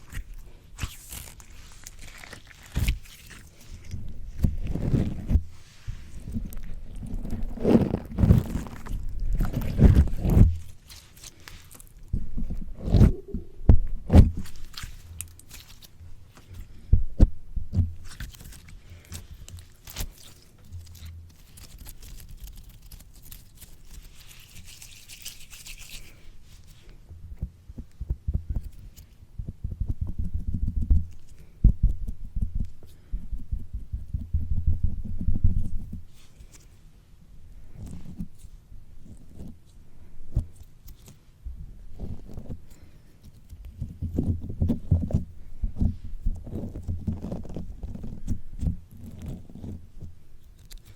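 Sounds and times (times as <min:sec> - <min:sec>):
slime squishing on microphone: 0:00.0 - 0:36.8, 0:37.6 - 0:50.9.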